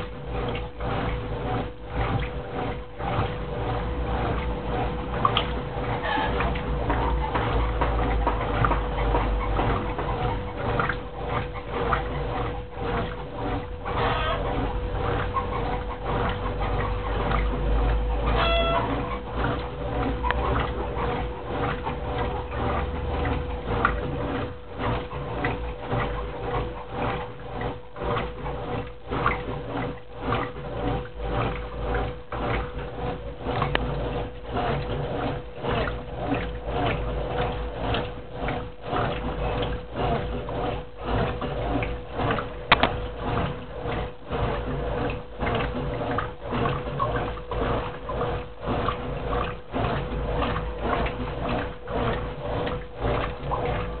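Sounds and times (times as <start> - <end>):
washing machine motor hum: 0.0 - 54.0
water and fabric churning: 0.0 - 54.0.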